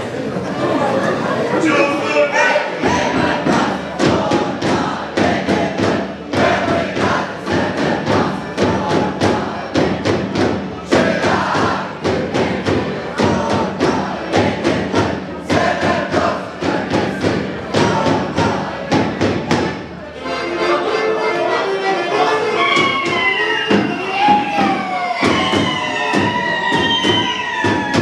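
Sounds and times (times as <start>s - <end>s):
carolers singing: 0.0s - 28.0s
frame drums beating: 2.7s - 20.0s, 22.6s - 28.0s.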